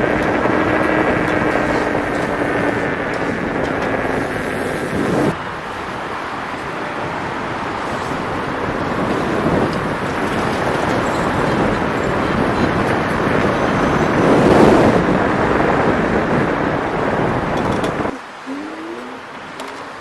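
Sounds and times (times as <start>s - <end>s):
road noise: 0.0s - 20.0s
wind rushing over microphone: 0.0s - 20.0s.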